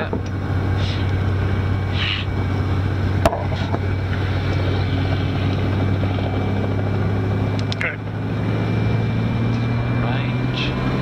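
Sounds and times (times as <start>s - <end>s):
helicopter engine and rotors running: 0.0s - 11.0s.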